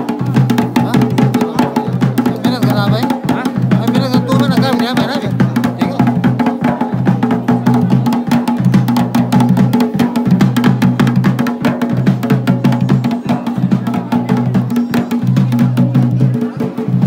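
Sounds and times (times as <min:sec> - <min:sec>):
drums in fast dense rhythm: 0:00.0 - 0:17.0.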